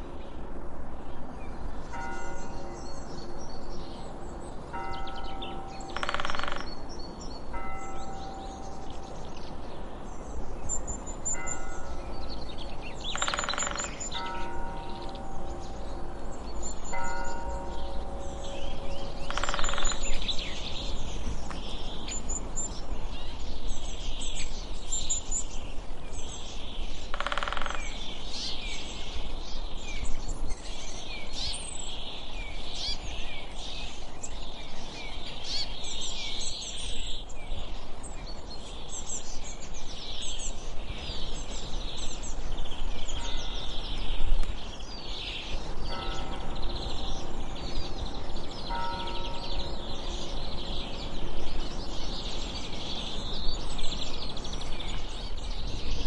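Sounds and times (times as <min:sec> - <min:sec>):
birds chirping and singing: 0:01.4 - 0:56.0.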